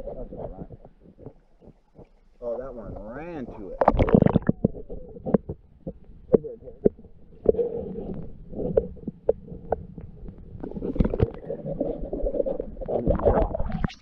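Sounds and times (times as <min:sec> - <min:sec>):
underwater clicks and knocks: 0:00.0 - 0:14.0
underwater water rumble: 0:00.0 - 0:14.0.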